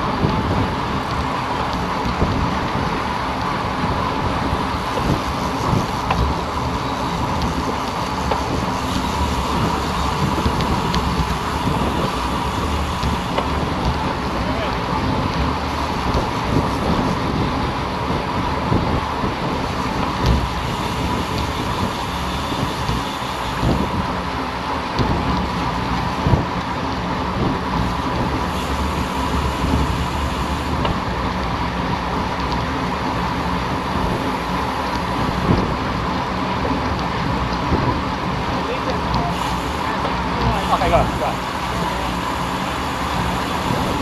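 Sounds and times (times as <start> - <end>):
constant hum: 0.0 - 44.0
wind and road noise: 0.0 - 44.0.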